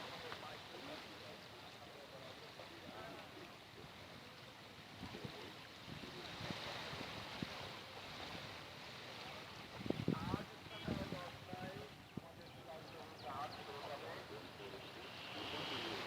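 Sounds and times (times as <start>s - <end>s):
faint voices: 0.0s - 16.0s
surf washing onto beach: 0.0s - 16.0s.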